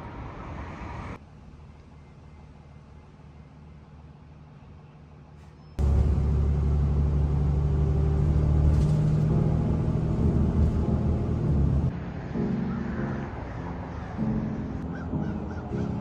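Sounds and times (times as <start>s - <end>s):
low vehicle engine rumble: 0.0s - 16.0s.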